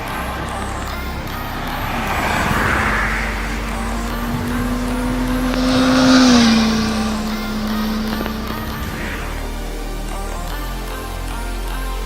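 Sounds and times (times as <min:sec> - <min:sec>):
motorcycle passing at speed: 0:00.0 - 0:10.7.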